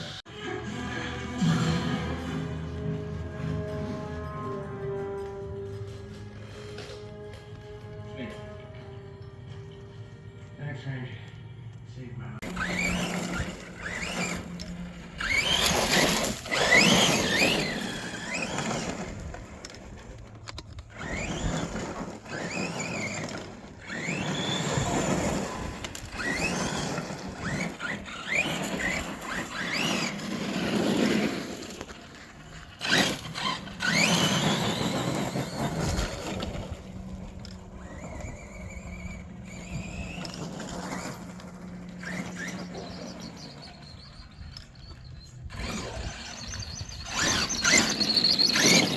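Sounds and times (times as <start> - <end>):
rc truck motor whining: 0.0 - 10.9, 11.6 - 48.9.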